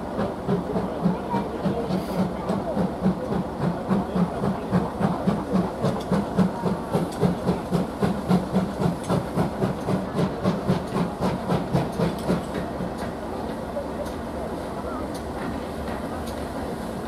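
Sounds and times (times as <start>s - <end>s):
steam locomotive chuffing: 0.0s - 17.0s
wheels rattling on rails: 0.0s - 17.0s
steam hissing: 1.7s - 17.0s.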